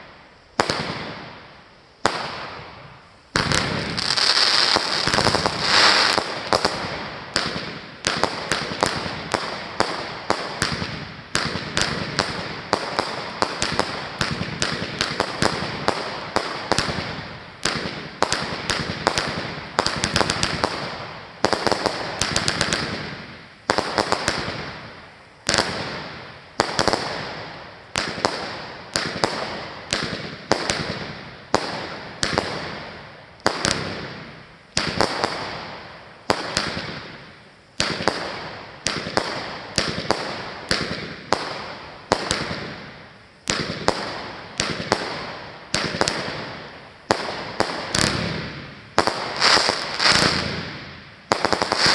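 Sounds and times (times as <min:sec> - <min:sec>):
fireworks crackling: 0:00.0 - 0:51.9
fireworks bangs: 0:00.6 - 0:51.9.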